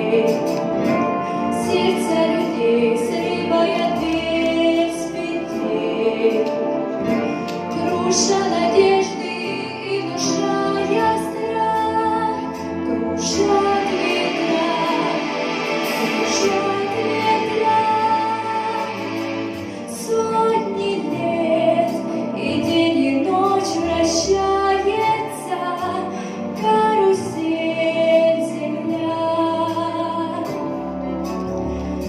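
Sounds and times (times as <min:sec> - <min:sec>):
backing-track music with held chords: 0:00.0 - 0:32.0.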